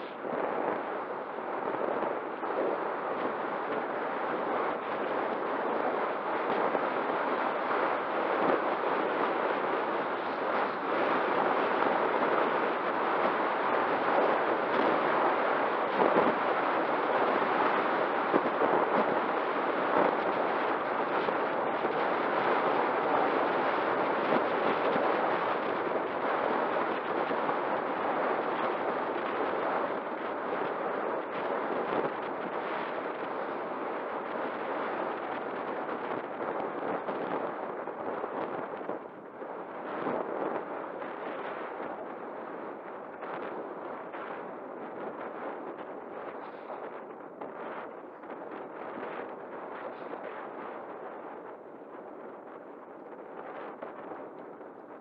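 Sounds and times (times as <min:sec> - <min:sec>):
faint steady tone: 0:00.0 - 0:55.0
wind buffeting microphone: 0:00.0 - 0:55.0.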